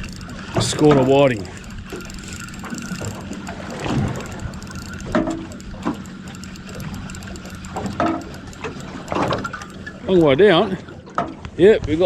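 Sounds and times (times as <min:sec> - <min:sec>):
fishing reel clicking: 0:00.0 - 0:11.2
boat engine hum: 0:00.0 - 0:12.0.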